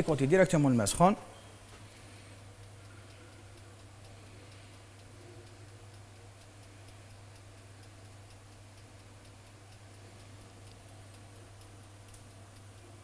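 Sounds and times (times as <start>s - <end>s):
low electrical hum: 0.0s - 13.0s
faint regular ticks: 1.8s - 13.0s.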